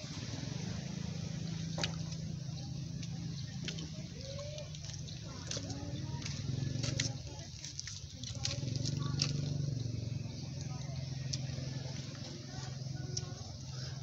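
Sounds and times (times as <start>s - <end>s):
cat chewing and crunching food: 2.0s - 14.0s.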